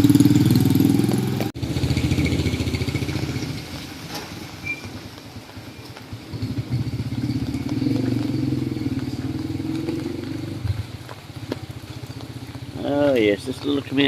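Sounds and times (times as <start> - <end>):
small motorcycle engine passing: 0.0 - 5.0, 6.0 - 13.2.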